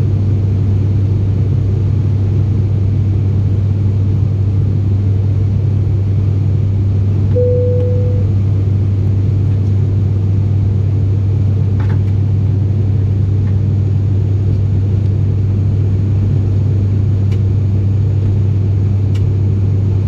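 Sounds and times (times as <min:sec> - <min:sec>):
turboprop engine drone in cabin: 0:00.0 - 0:20.0.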